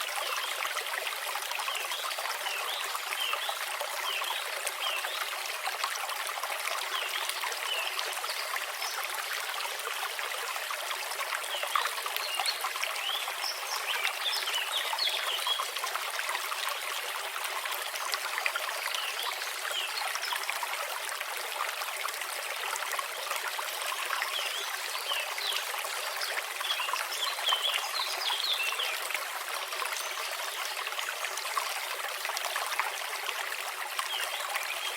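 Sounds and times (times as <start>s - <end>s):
brook babbling over stones: 0.0s - 34.9s.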